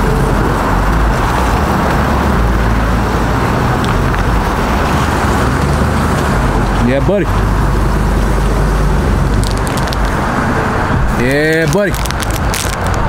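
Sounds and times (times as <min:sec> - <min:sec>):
tire and road noise: 0:00.0 - 0:13.0
truck engine low rumble: 0:00.0 - 0:13.0.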